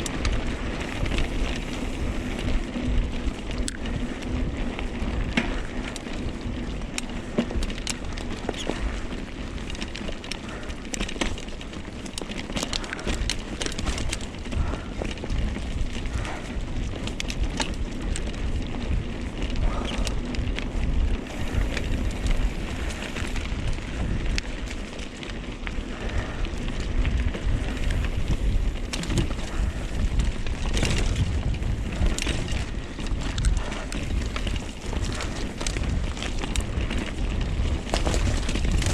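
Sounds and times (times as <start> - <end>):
bike rattling over bumps: 0.0 - 38.9
tyres rolling over dirt and rocks: 0.0 - 38.9
wind buffeting microphone: 0.0 - 38.9.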